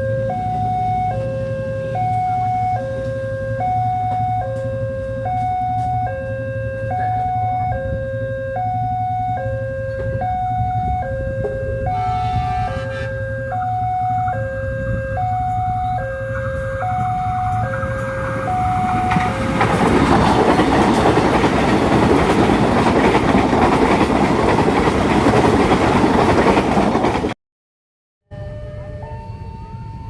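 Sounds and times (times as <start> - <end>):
two-tone warning alarm: 0.0 - 23.2, 28.3 - 30.0
train passing rushing and rumbling: 0.1 - 27.4.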